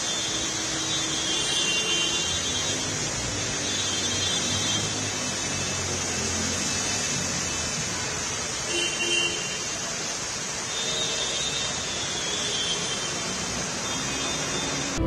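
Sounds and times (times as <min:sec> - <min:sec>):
car tyres on wet road: 0:00.0 - 0:15.0
rain hissing: 0:00.0 - 0:15.0.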